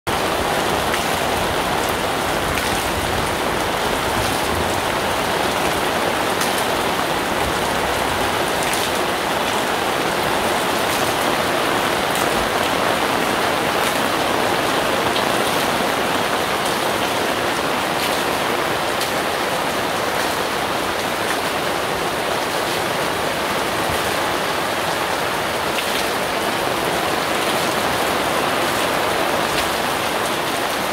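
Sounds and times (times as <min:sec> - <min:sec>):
heavy rain on fabric canopy: 0:00.0 - 0:30.9
rain splashing on wet street: 0:00.1 - 0:30.9.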